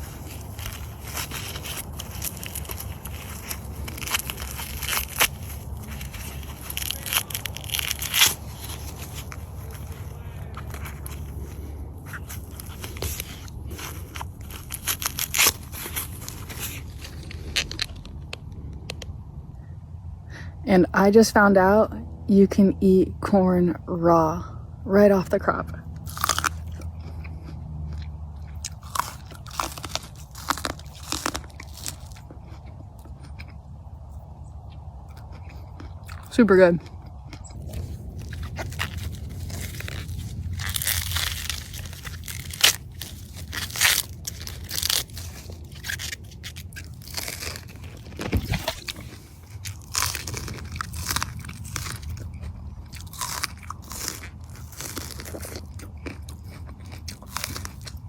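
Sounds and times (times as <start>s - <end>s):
person crunching raw corn: 0.0s - 19.4s, 25.2s - 58.0s.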